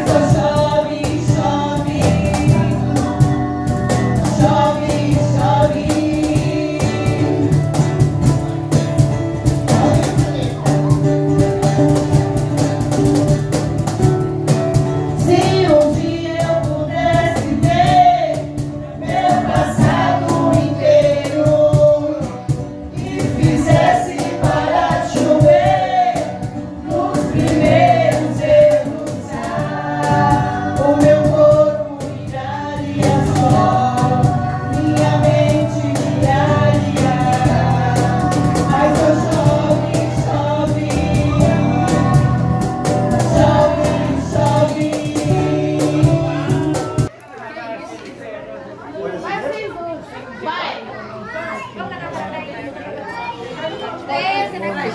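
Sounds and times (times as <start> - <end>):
song with singing: 0.0 - 47.1.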